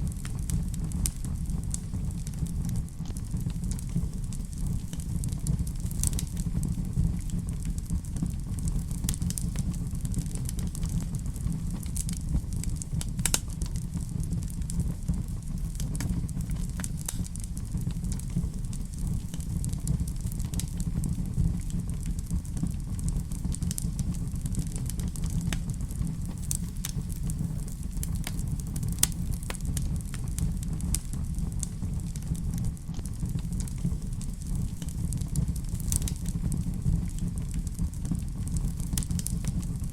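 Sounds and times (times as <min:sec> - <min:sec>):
fire popping and snapping: 0:00.0 - 0:39.9
low rumble of flames: 0:00.0 - 0:39.9
wood fire crackling: 0:00.0 - 0:39.9.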